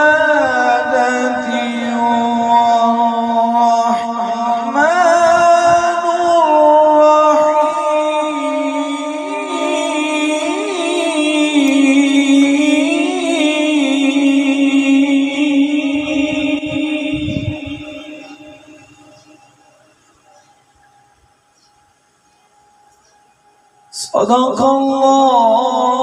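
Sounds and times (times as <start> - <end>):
man chanting into microphone: 0.0 - 19.3, 24.0 - 26.0.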